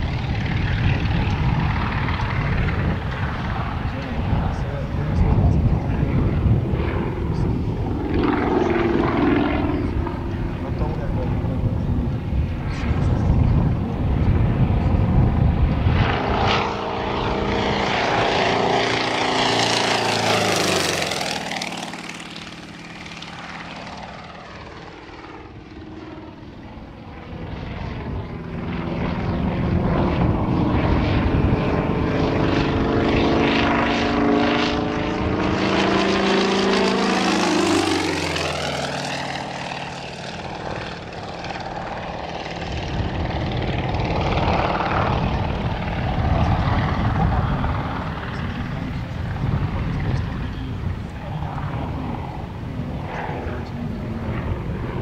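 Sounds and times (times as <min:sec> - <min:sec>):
propeller plane engine passing: 0:00.0 - 0:55.0.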